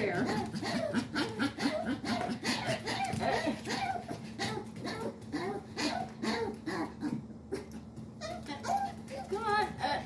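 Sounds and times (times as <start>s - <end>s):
dogs yipping and whining: 0.0s - 10.0s.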